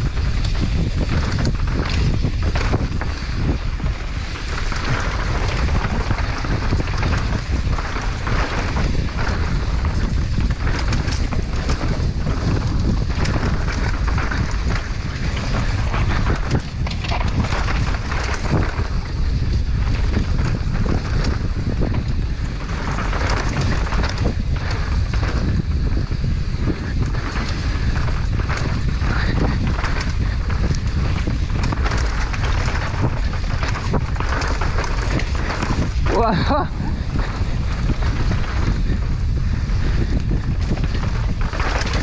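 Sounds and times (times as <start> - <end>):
bike clattering: 0.0 - 42.0
tyres skidding on dirt: 0.0 - 42.0
wind buffeting microphone: 0.0 - 42.0.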